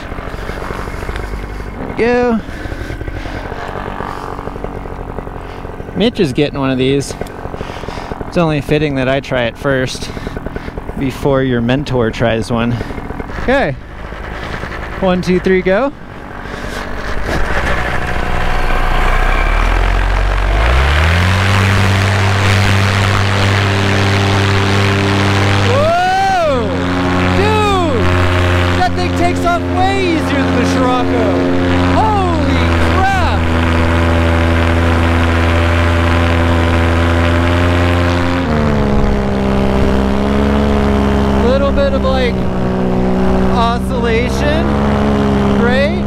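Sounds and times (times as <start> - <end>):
paramotor engine throttling up: 0.0 - 46.0.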